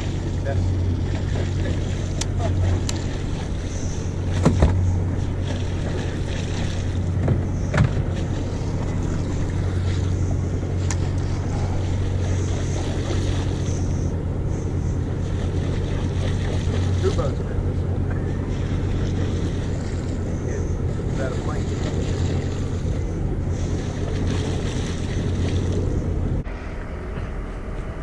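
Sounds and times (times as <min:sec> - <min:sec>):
water wash: 0:00.0 - 0:26.4
boat engine idling: 0:00.0 - 0:28.0.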